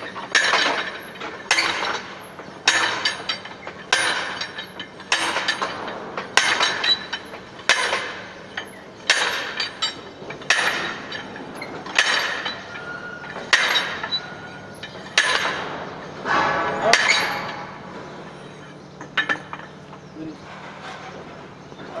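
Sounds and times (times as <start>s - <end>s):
drop hammer clanking on steel: 0.3s - 19.7s.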